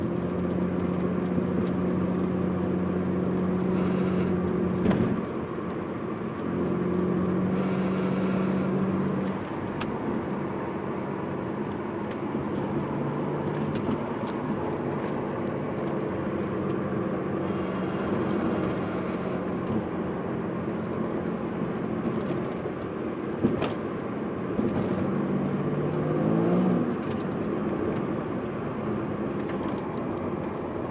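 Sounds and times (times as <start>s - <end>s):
car running noise: 0.0s - 30.9s.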